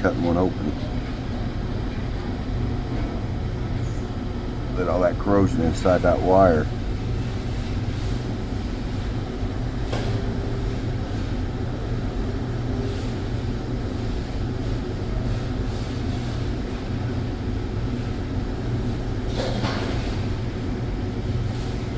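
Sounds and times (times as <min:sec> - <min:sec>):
low mechanical rumble and hiss: 0:00.0 - 0:21.9.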